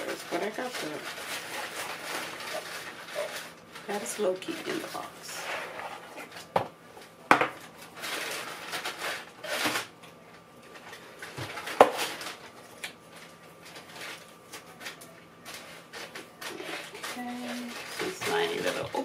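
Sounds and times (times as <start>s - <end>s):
cardboard and paper rustling: 0.0s - 9.9s, 10.7s - 19.0s.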